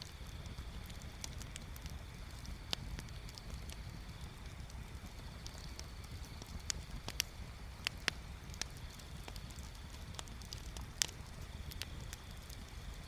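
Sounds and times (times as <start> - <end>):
bonfire crackling and popping: 0.0 - 13.0
low steady rumble: 0.0 - 13.0.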